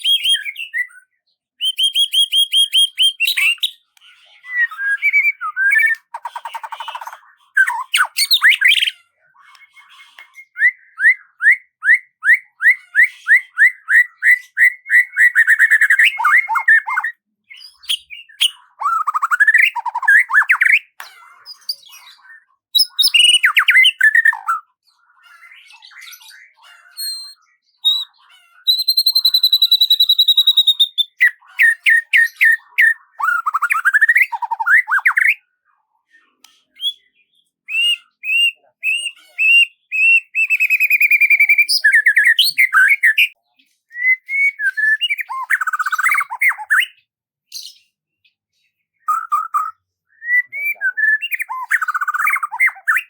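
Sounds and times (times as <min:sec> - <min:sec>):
songbird singing: 0:00.0 - 0:35.4, 0:36.2 - 0:48.4, 0:49.0 - 0:53.0.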